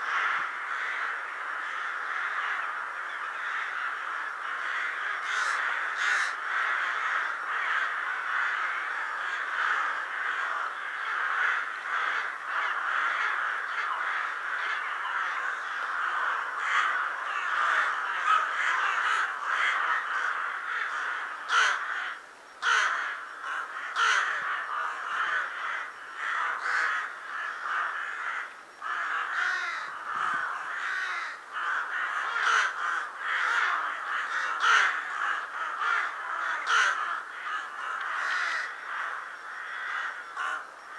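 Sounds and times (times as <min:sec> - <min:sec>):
rooks cawing: 0:00.0 - 0:40.9.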